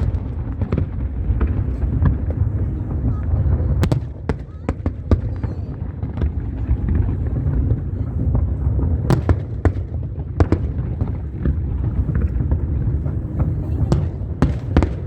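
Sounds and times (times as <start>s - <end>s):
fireworks rumbling: 0.0s - 15.0s
fireworks sharp cracks: 0.0s - 15.0s.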